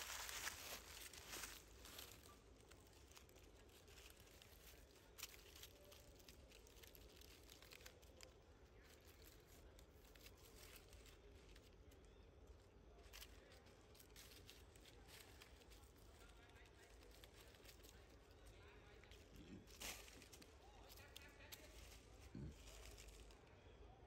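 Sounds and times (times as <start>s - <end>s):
faint crackles and rustles: 0.0s - 24.0s.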